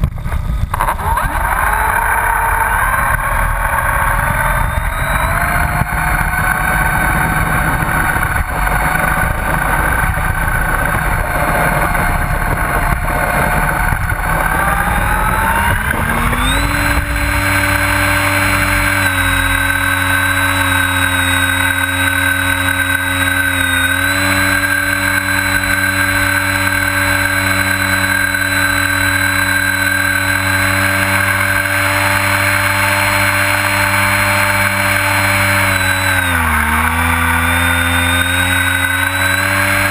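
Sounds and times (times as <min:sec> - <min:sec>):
model plane motor and propeller: 0:00.0 - 0:39.9
wheels rumbling on asphalt: 0:00.0 - 0:39.9.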